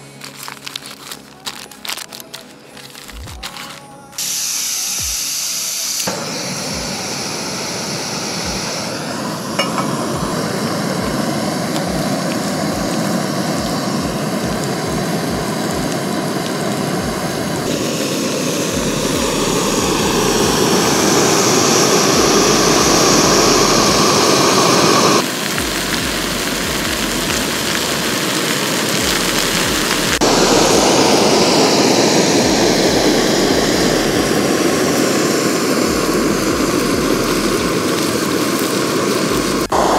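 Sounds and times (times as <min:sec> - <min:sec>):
gas stove burner hissing: 0:04.1 - 0:39.9.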